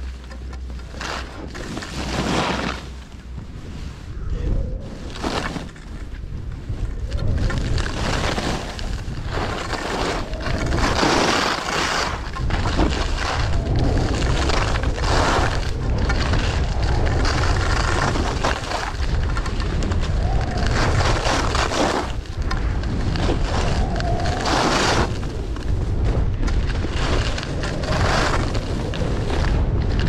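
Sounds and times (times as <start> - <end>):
skis scraping on snow: 0.0 - 30.0
wind buffeting microphone: 0.0 - 30.0.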